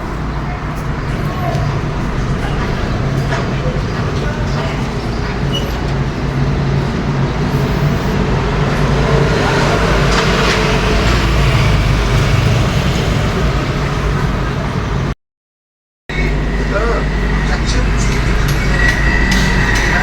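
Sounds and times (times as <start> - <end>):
road noise: 0.0 - 15.2, 16.1 - 20.0
vehicle engine hum: 0.0 - 15.2, 16.1 - 20.0.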